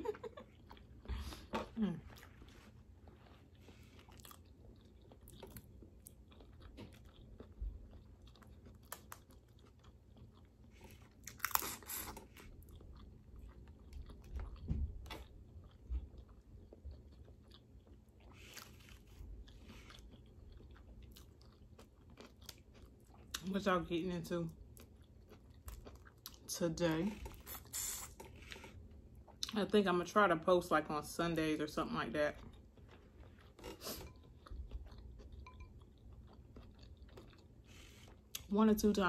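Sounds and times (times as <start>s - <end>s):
person chewing and biting: 0.5s - 23.4s, 24.7s - 26.5s, 27.2s - 29.4s, 32.4s - 38.5s.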